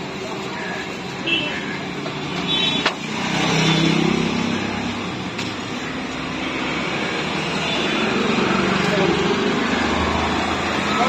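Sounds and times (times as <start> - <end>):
urban background noise: 0.0 - 11.0.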